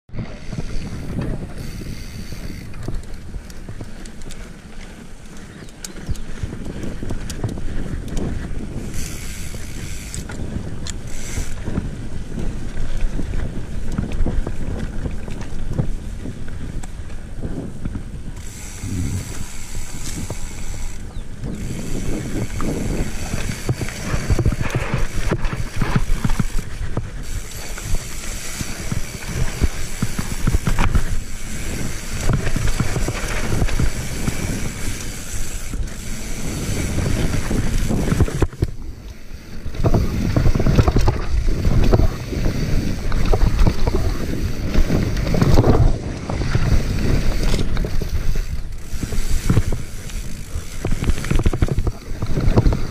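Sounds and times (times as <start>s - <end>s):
bike frame rattling: 0.1s - 52.9s
bike tyres rolling over dirt: 0.1s - 52.9s
wind on microphone: 0.1s - 52.9s.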